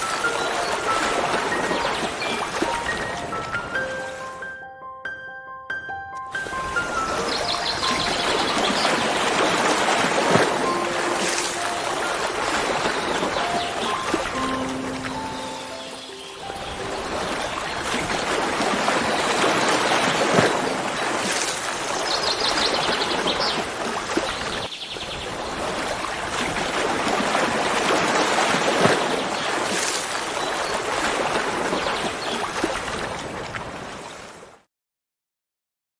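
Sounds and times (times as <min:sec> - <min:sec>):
flowing water rushing: 0:00.0 - 0:04.5, 0:06.3 - 0:34.5.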